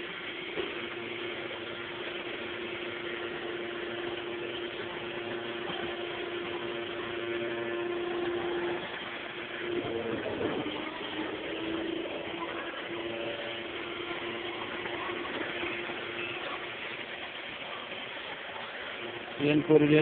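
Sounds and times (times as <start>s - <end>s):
constant hiss: 0.0s - 20.0s
steady one-tone hum: 0.0s - 20.0s.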